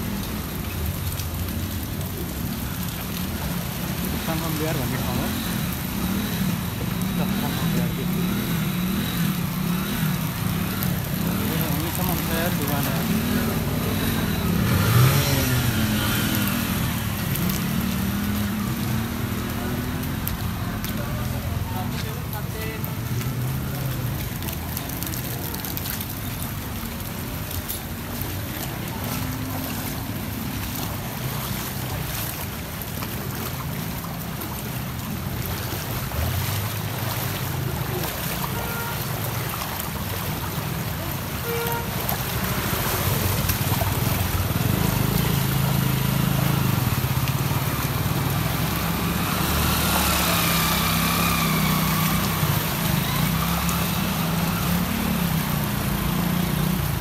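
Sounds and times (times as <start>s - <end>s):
feet splashing through water: 0.0s - 57.0s
vehicle engines: 0.0s - 57.0s.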